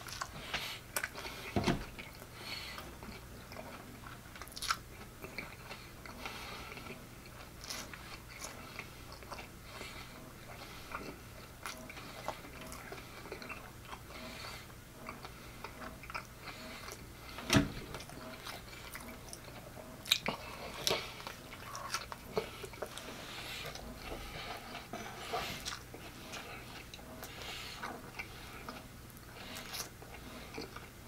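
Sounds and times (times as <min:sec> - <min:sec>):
chewing with wet mouth sounds: 0:00.0 - 0:31.0.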